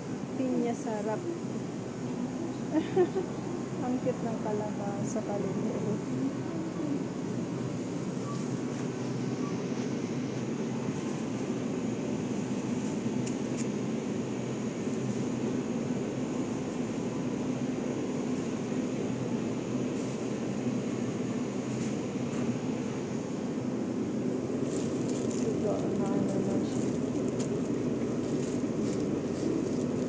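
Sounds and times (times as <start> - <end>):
ventilation machinery hum: 0.0 - 30.0.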